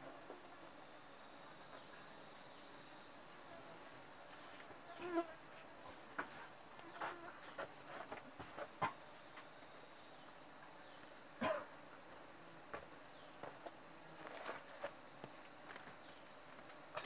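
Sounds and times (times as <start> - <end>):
jungle insects droning: 0.0 - 17.0.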